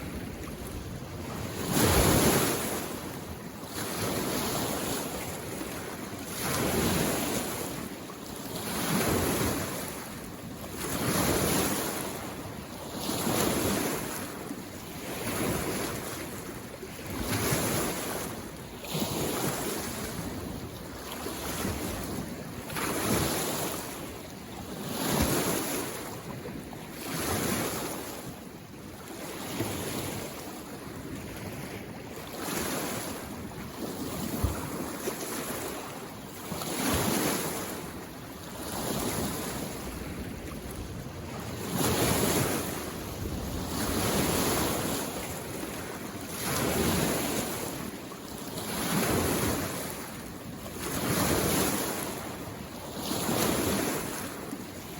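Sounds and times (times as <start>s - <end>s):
small lake waves washing in: 0.0s - 54.9s.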